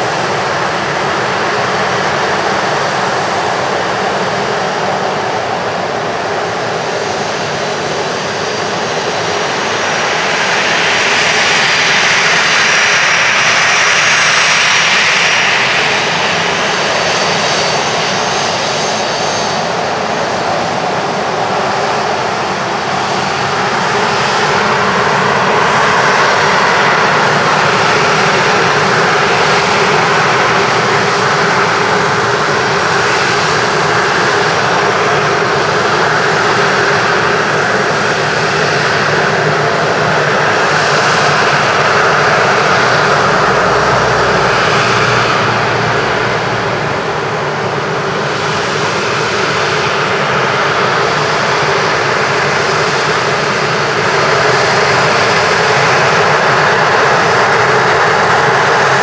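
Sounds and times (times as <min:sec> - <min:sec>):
jet engines taxiing with whine: 0:00.0 - 0:59.0.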